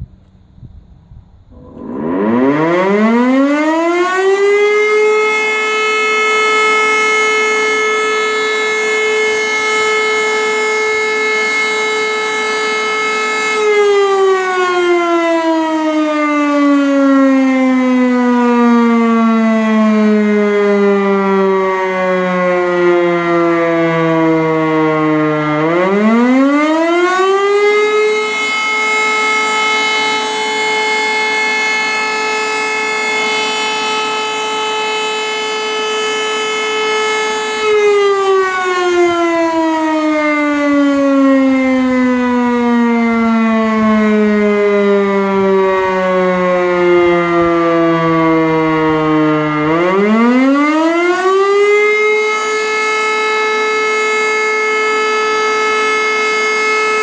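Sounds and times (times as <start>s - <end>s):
siren winding up and down: 1.5s - 57.0s.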